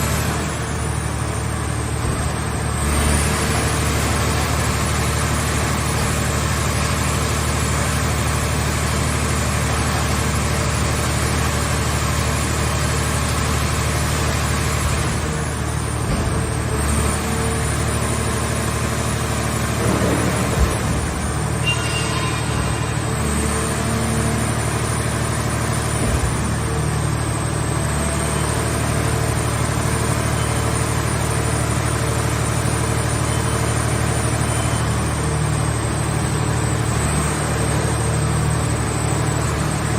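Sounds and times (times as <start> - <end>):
car baler humming: 0.0 - 39.9.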